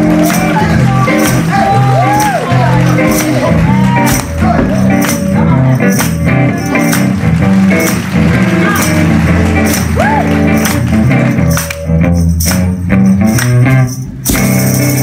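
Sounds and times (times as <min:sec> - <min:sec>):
electric guitar: 0:00.0 - 0:15.0
soul band playing: 0:00.0 - 0:15.0
tambourine shaken and struck: 0:00.0 - 0:15.0.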